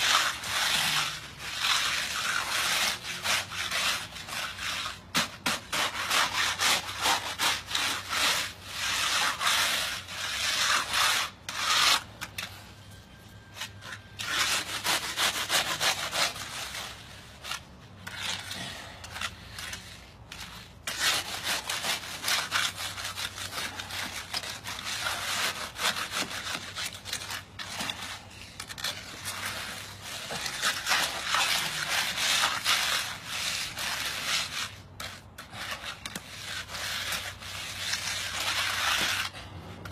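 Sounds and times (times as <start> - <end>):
hand float scraping concrete: 0.0 - 12.7, 13.4 - 39.9.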